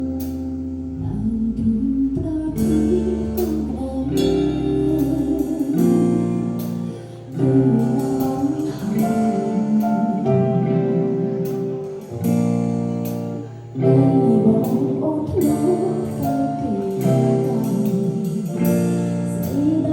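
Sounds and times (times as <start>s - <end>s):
bass line: 0.0s - 19.9s
live band guitar music: 0.0s - 19.9s.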